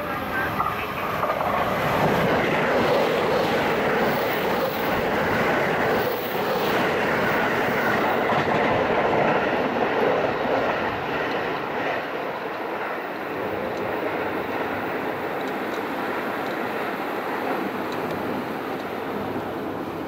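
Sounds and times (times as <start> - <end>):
electric train running past: 0.0 - 20.0.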